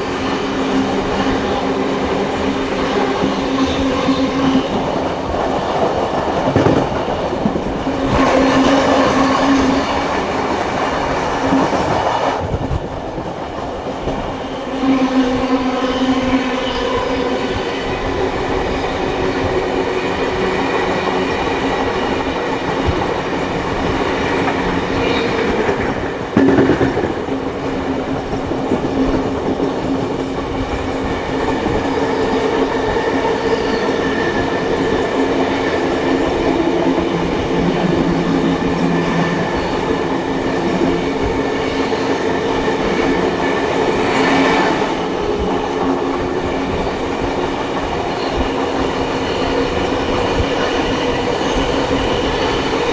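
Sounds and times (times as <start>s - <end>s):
constant train rumble: 0.0s - 52.9s
train wheels clattering on rails: 0.0s - 52.9s.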